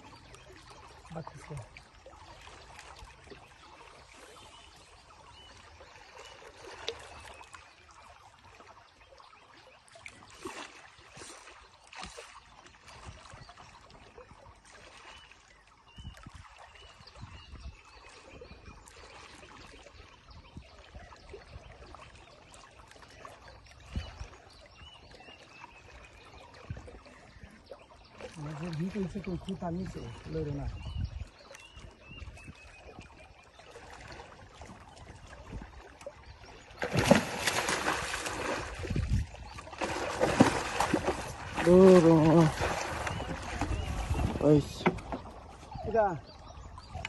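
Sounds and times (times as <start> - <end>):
water lapping around a boat: 0.0 - 47.0.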